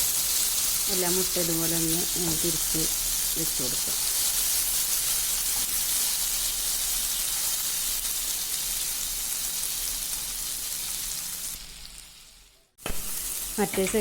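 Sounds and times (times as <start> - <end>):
eggs sizzling in hot oil: 0.0 - 14.0.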